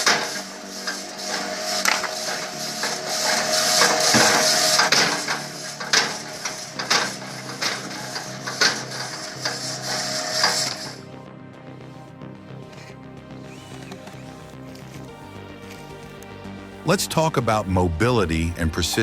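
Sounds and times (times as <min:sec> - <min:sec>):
machine hissing: 0:00.0 - 0:11.2, 0:12.5 - 0:18.2
steady machine whine: 0:00.0 - 0:18.7
background music: 0:00.0 - 0:19.0.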